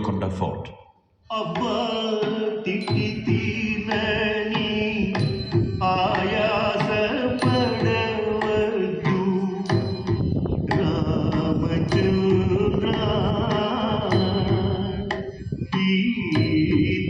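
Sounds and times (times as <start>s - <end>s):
wavering melody: 1.3s - 17.0s
hand drum beats: 2.8s - 17.0s.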